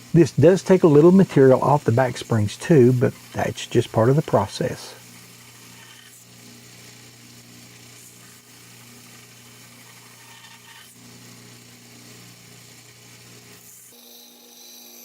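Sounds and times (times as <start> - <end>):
belt sander sanding metal: 0.0 - 15.0.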